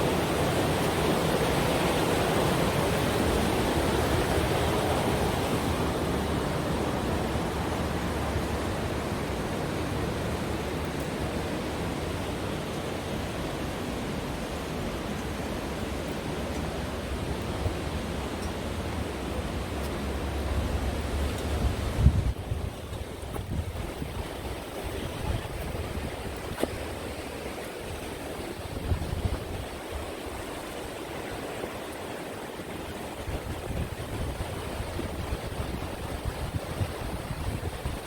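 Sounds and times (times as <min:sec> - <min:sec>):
rushing river water: 0:00.0 - 0:38.0.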